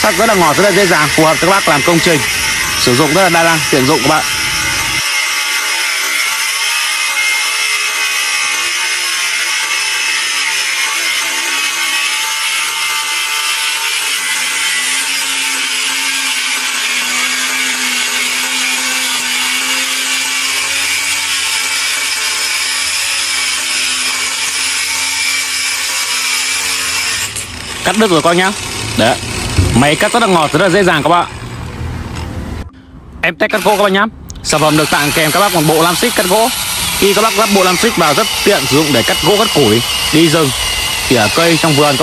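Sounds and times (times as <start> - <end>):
angle grinder cutting steel: 0.0 - 31.7, 33.5 - 33.9, 34.5 - 42.0.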